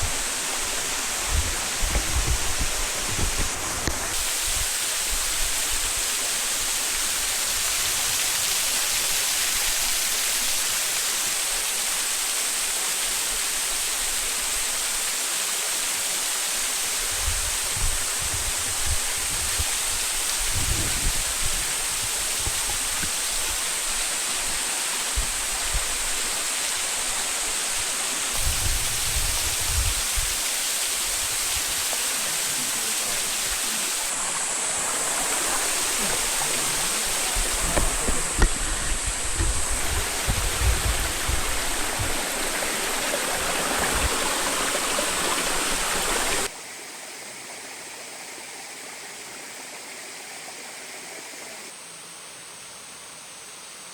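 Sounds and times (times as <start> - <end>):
waterfall rushing: 0.0 - 46.6.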